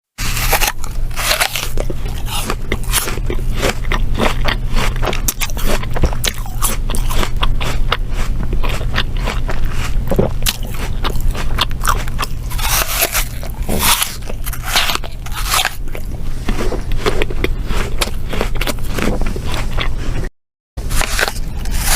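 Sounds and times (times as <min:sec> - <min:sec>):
person chewing crunchy food: 0:00.2 - 0:21.9
steady low hum: 0:00.2 - 0:21.9.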